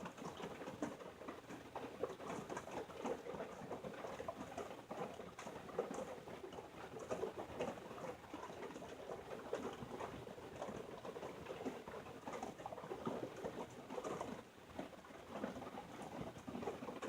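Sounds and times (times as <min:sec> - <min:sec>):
rain on a vehicle roof: 0:00.0 - 0:17.0.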